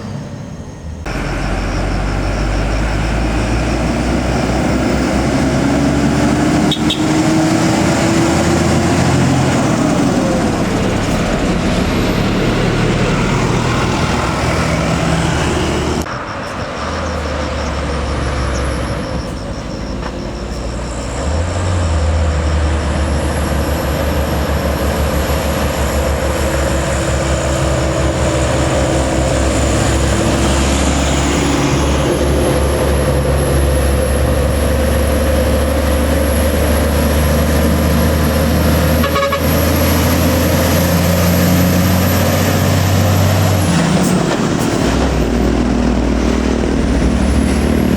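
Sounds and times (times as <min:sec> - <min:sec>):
diesel trucks climbing under load: 0:00.0 - 0:47.9.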